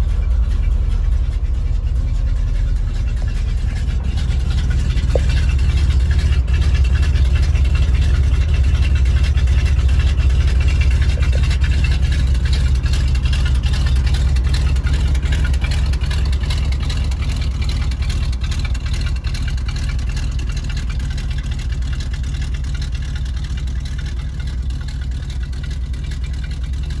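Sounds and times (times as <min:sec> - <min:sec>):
truck engine droning: 0:00.0 - 0:27.0.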